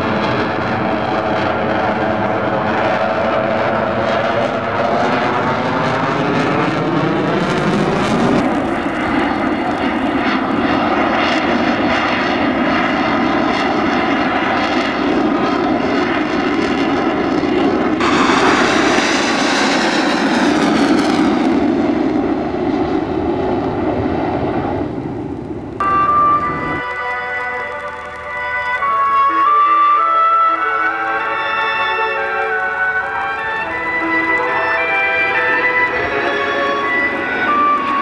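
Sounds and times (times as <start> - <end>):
aircraft engine flying past: 0.0 - 38.0.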